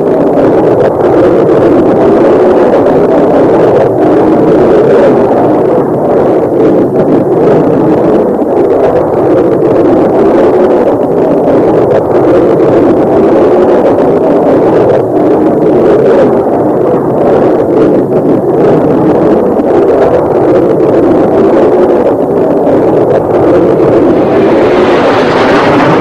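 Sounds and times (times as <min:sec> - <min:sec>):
jet engines at take-off power: 0:00.0 - 0:26.0.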